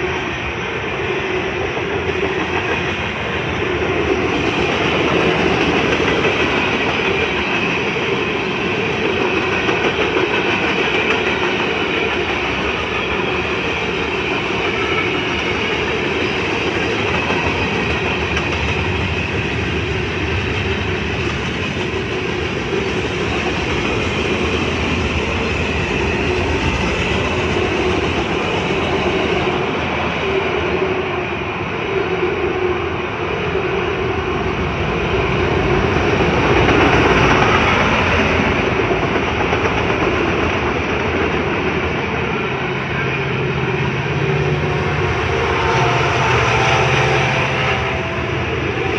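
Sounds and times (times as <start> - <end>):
freight train rolling past: 0.0 - 48.9
steel wheels on rail: 0.0 - 48.9.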